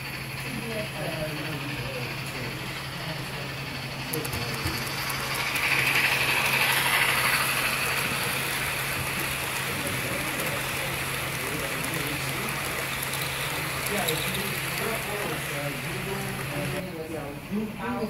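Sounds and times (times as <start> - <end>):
model train whirring and rattling: 0.0 - 18.0.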